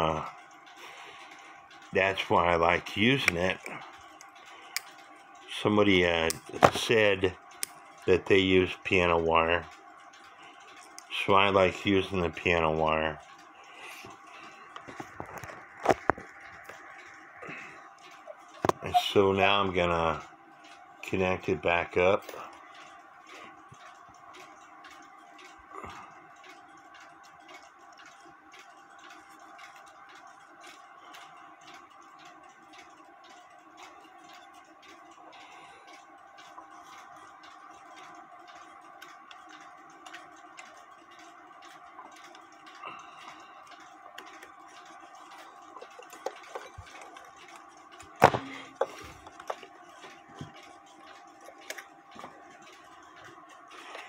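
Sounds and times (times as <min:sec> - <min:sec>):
clock ticking: 0:00.0 - 0:54.0
faint hum: 0:00.0 - 0:54.0.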